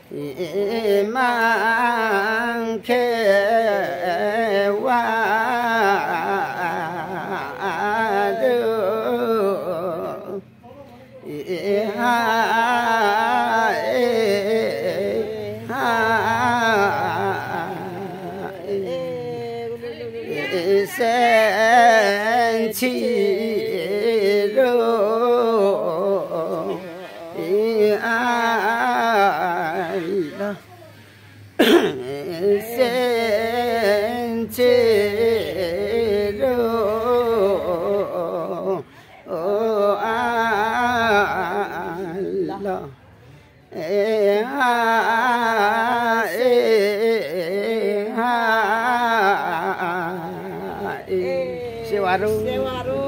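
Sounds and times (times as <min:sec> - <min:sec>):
person singing: 0:00.0 - 0:31.0, 0:31.6 - 0:43.1, 0:43.7 - 0:53.0.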